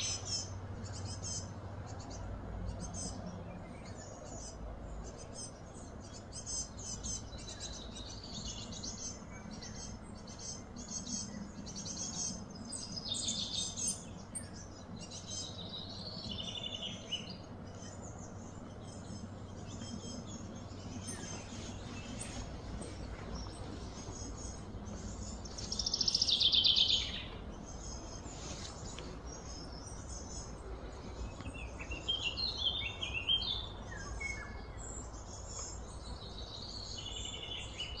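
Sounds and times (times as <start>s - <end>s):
birds chirping and singing: 0.0s - 38.0s
low background hum: 0.0s - 38.0s.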